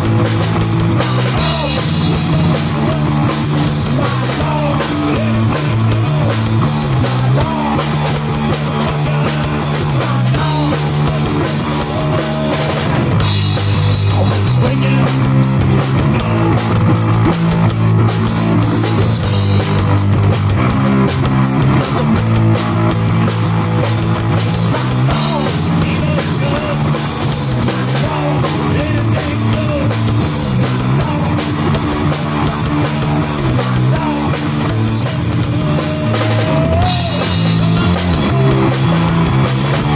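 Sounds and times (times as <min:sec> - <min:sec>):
live rock band: 0:00.0 - 0:39.9.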